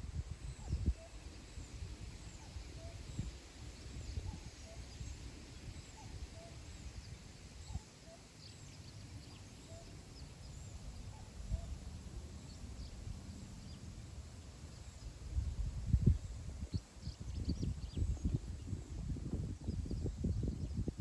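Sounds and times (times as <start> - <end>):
wind rumbling on microphone: 0.0 - 8.1, 9.0 - 21.0.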